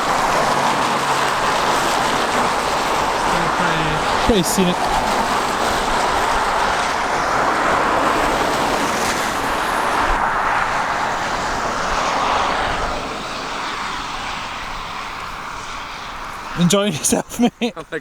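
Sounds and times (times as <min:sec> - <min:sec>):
car tyres hissing on wet road: 0:00.0 - 0:18.0.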